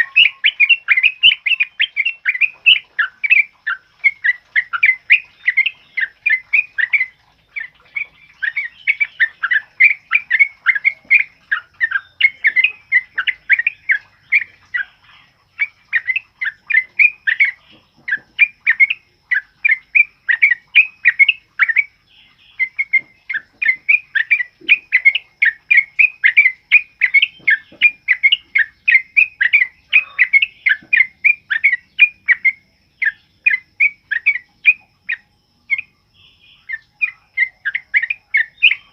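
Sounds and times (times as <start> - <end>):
bulbul singing chirping runs: 0.0 - 38.9.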